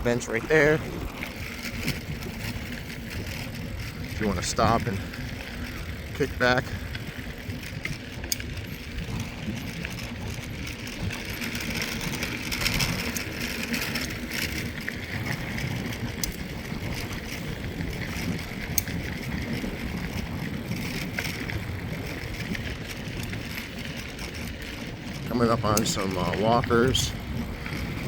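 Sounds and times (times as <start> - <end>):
bike clicks and rattles: 0.0 - 28.0
bike tyres rolling on gravel: 0.0 - 28.0.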